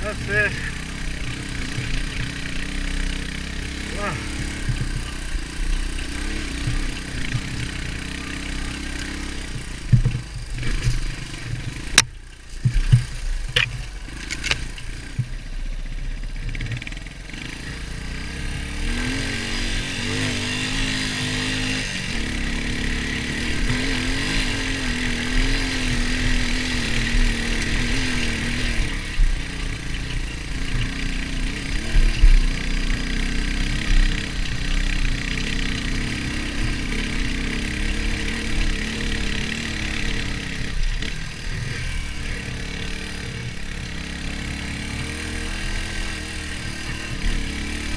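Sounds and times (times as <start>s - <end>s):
dirt bike engine running: 0.0s - 47.9s.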